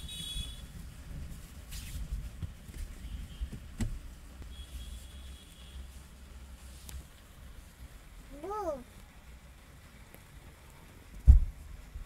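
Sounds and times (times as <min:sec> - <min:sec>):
rain drops tapping on a car: 0:00.0 - 0:12.0.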